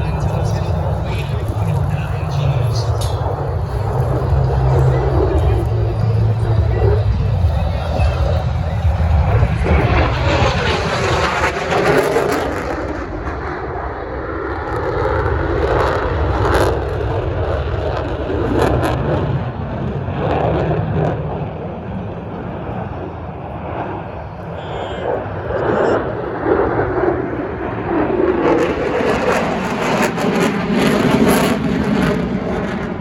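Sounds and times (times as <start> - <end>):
fighter jet flying past: 0.0 - 33.0.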